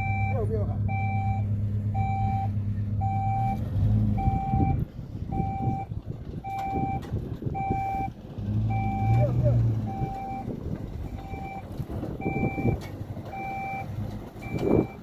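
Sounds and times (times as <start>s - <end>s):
engine running: 0.0s - 15.0s
vehicle reversing alarm beeping: 0.0s - 15.0s.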